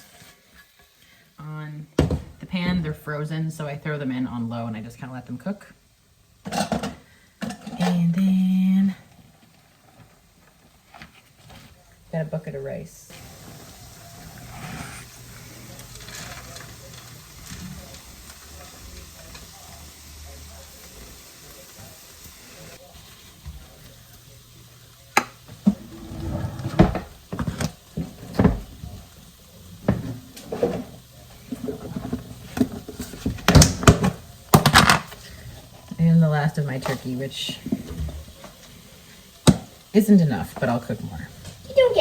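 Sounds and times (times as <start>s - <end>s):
vegetables sizzling in a pan: 0.0s - 42.0s.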